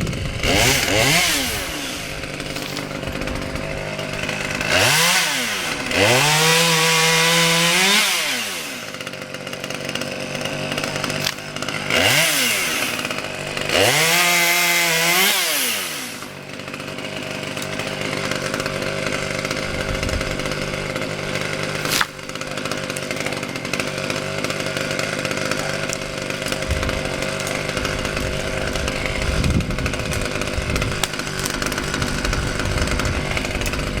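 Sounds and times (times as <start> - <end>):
chainsaw idling: 0.0 - 34.0
chainsaw revving: 0.0 - 34.0.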